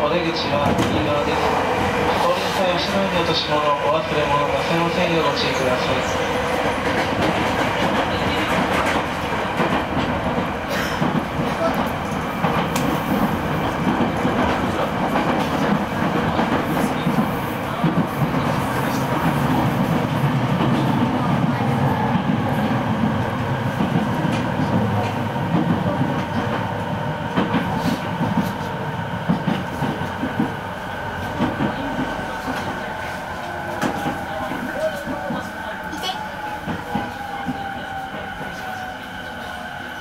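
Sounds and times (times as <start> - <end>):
train wheels clattering over rails: 0.4 - 39.8.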